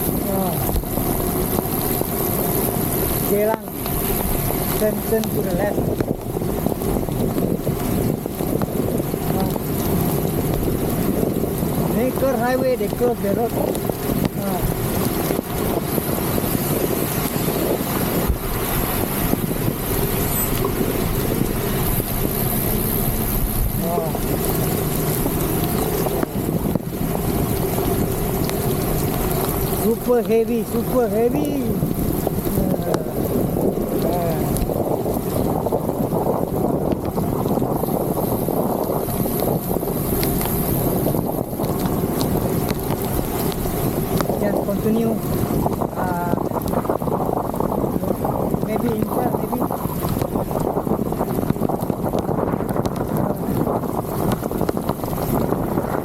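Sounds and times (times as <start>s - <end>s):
heavy rain: 0.0s - 56.0s
wet road spray: 0.0s - 56.0s
wind on microphone: 0.0s - 56.0s.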